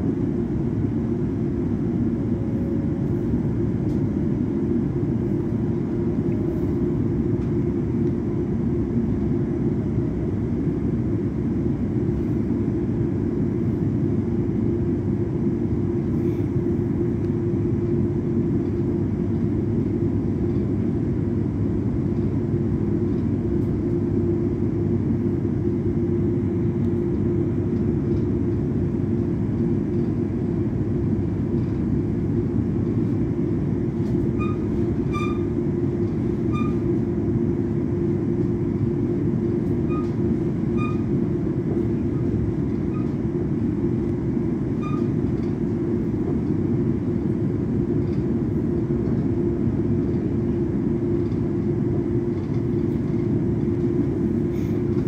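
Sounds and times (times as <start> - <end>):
steady low hum: 0.0 - 55.0
train wheels rumbling on track: 0.0 - 55.0.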